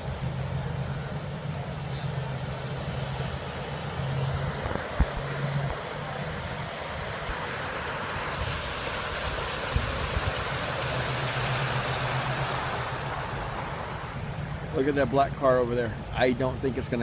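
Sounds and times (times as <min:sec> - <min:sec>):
cars rushing through floodwater: 0:00.0 - 0:17.0
low engine hum: 0:00.0 - 0:17.0.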